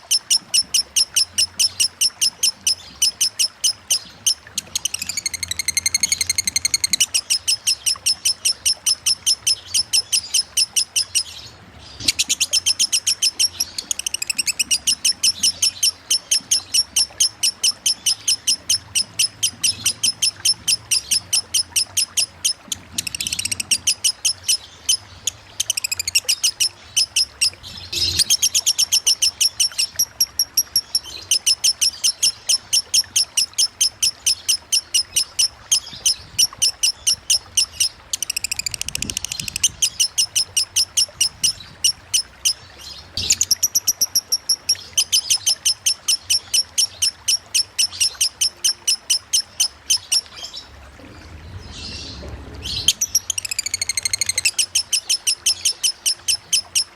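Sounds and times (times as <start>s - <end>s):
lovebird chattering song: 0.0s - 50.7s, 51.6s - 56.9s.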